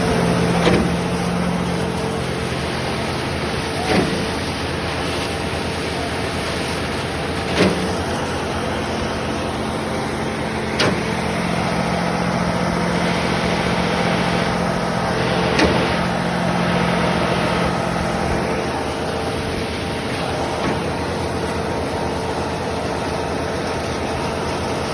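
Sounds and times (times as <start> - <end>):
concrete pump engine drone: 0.0 - 24.9.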